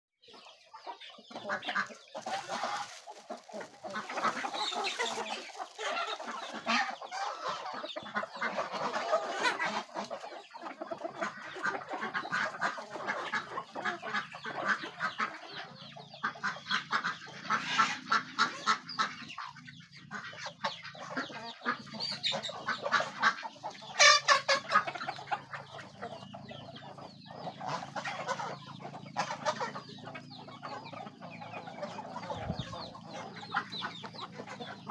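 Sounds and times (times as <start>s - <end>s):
chickens clucking: 0.2s - 34.9s.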